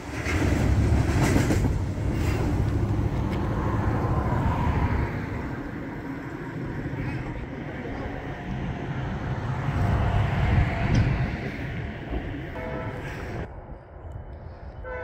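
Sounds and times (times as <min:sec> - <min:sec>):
freight train rumbling past: 0:00.0 - 0:13.7.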